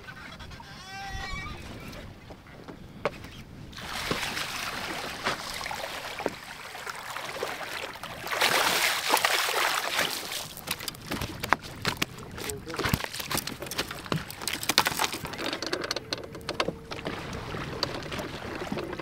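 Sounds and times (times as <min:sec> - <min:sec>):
fish thrashing and splashing: 0:03.8 - 0:19.0.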